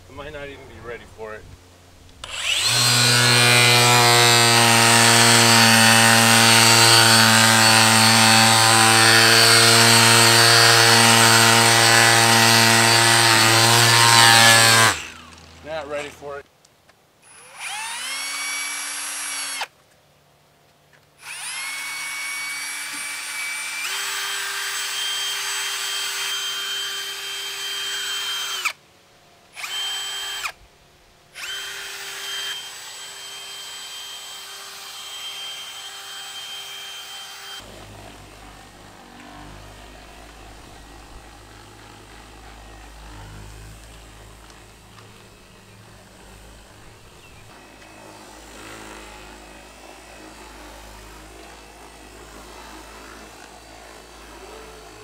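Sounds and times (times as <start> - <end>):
cordless drill motor whine: 2.2 - 16.2, 17.2 - 19.7, 21.2 - 28.8, 29.6 - 30.6, 31.4 - 55.0.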